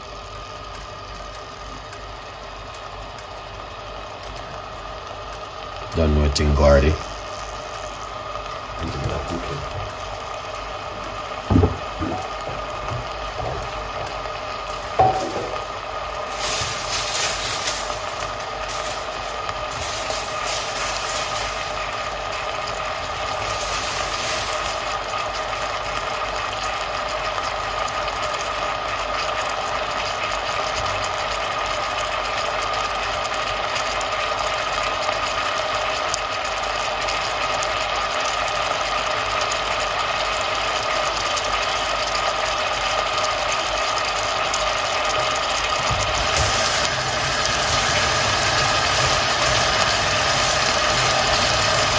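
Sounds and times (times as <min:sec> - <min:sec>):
vegetables sizzling in pot: 0:00.0 - 0:51.9.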